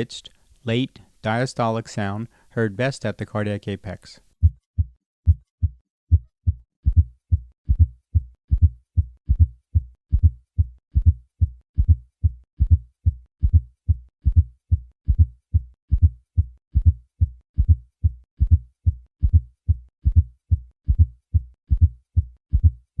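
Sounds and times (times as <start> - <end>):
heart sounds low thuds: 4.4 - 23.0.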